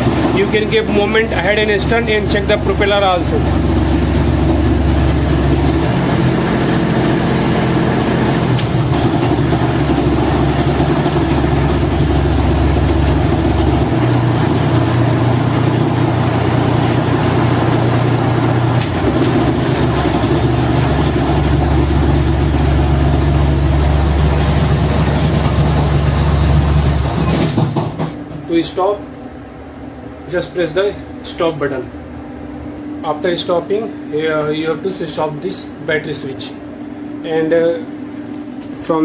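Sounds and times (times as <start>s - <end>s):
diesel boat engine running: 0.0s - 39.0s.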